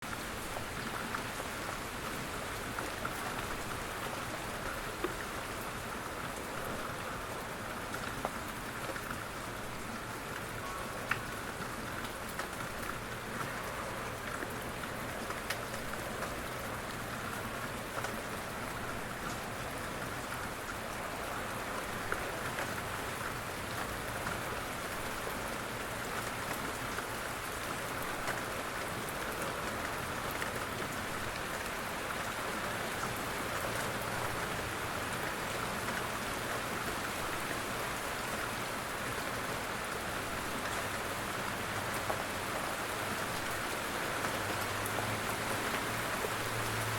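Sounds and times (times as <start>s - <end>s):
gentle rain falling: 0.0s - 46.9s.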